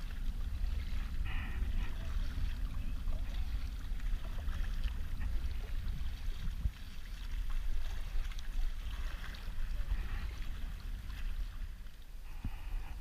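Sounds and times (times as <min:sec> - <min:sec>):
paddle splashing in water: 0:00.0 - 0:13.0
wind rumble on microphone: 0:00.0 - 0:13.0.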